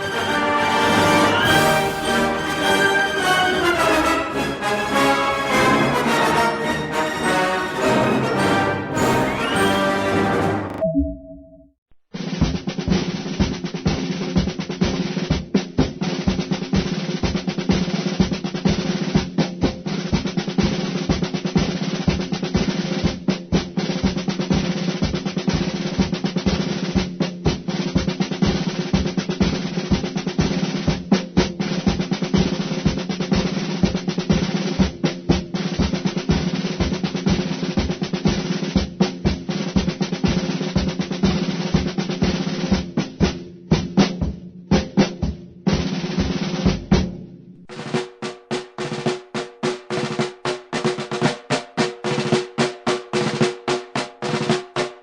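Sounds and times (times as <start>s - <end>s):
snare drum roll: 0.0s - 10.8s, 12.2s - 55.0s.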